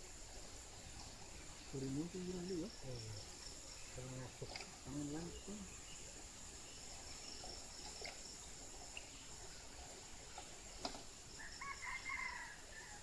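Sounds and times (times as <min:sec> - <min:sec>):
high-pitched insect drone: 0:00.0 - 0:10.2, 0:11.2 - 0:13.0.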